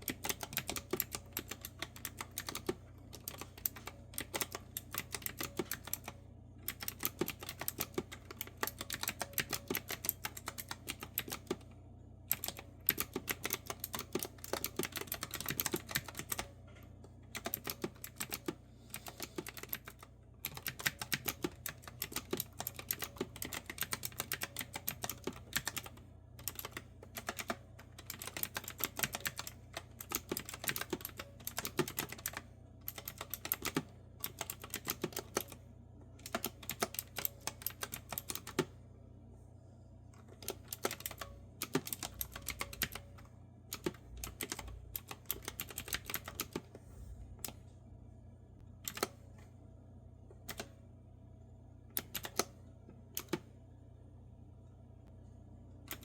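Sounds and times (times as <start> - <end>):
clicky keyboard typing: 0.0 - 11.7, 12.3 - 35.6, 36.2 - 38.7, 40.2 - 46.8, 48.8 - 49.2, 50.4 - 50.8, 52.0 - 52.6, 53.2 - 53.5.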